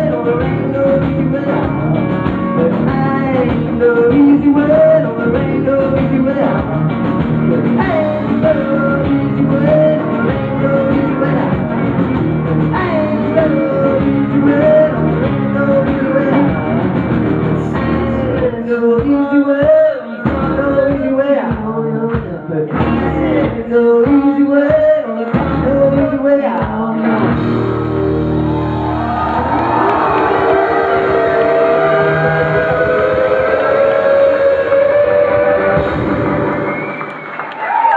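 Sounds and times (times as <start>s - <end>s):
person singing: 0.0s - 11.9s, 12.7s - 27.6s, 29.7s - 36.7s
acoustic guitar: 0.0s - 37.2s
rock band playing live: 0.0s - 37.9s.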